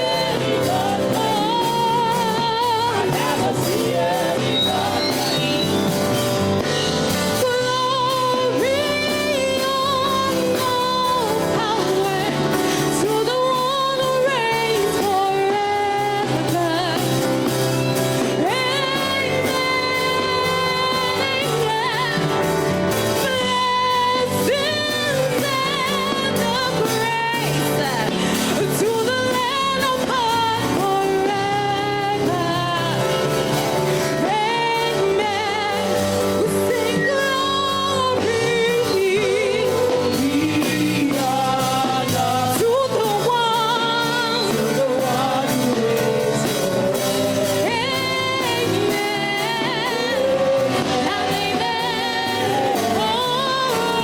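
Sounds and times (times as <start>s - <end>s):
instrumental accompaniment: 0.0s - 54.0s
person singing worship song: 0.0s - 54.0s.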